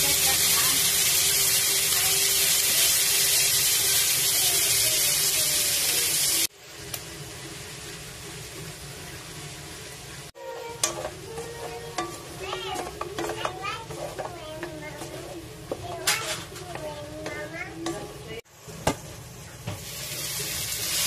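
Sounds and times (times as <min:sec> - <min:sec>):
squid sizzling in a pan: 0:00.0 - 0:21.0.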